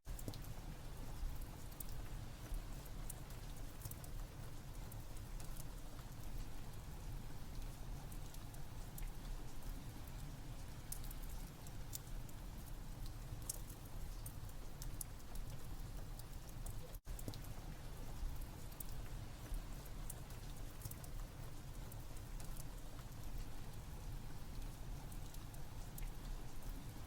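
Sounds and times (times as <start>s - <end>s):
rain hiss: 0.1s - 27.0s
wood fire crackling: 0.1s - 27.0s.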